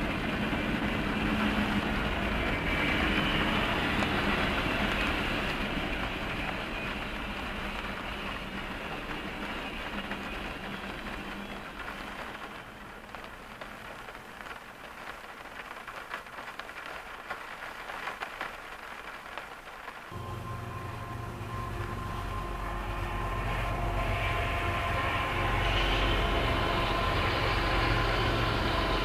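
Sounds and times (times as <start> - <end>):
freight train cars rolling past: 0.0 - 16.8, 20.1 - 29.0
rain on a car roof: 0.0 - 29.0.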